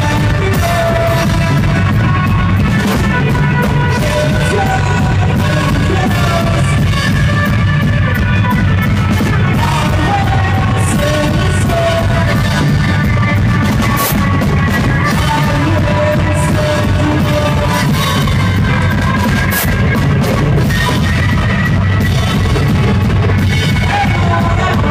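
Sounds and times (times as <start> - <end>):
drum kit with cymbal hits: 0.0 - 24.9
electric guitar: 0.0 - 24.9
person singing: 0.0 - 24.9.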